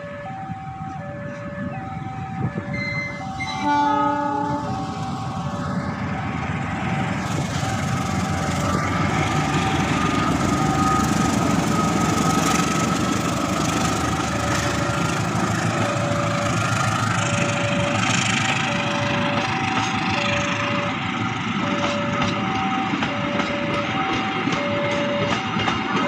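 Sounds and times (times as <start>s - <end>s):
diesel locomotive engine passing: 0.0s - 26.0s
level-crossing warning bell: 0.0s - 26.0s
train coaches rolling past: 0.0s - 26.0s.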